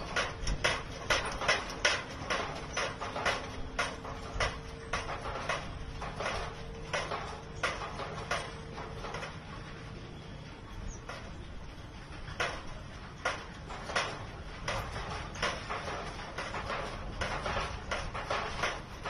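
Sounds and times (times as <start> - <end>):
sharp clacks: 0.0 - 9.9, 10.7 - 19.0.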